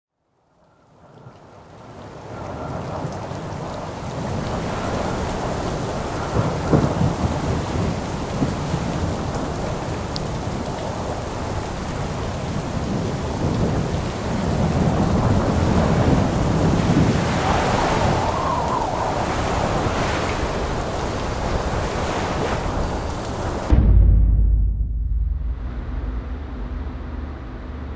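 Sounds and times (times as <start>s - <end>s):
heavy wind-driven rain: 0.9s - 23.8s
low rumbling wind gusts: 1.8s - 27.9s.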